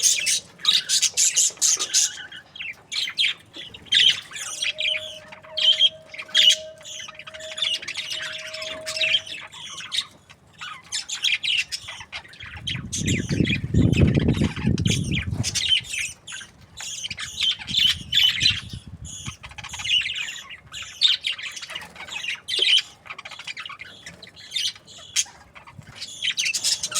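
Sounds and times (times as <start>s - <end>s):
budgerigars chattering and squawking: 0.0s - 26.9s.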